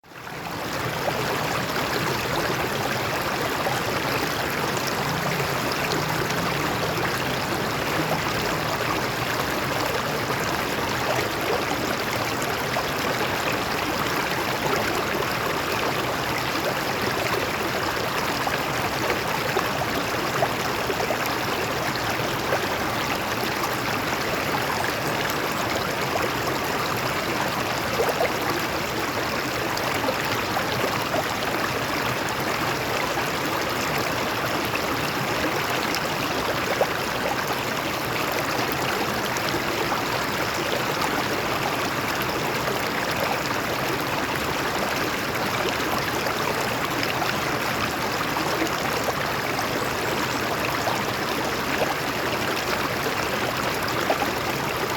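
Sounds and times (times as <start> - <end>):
water flowing over rocks: 0.0 - 54.9.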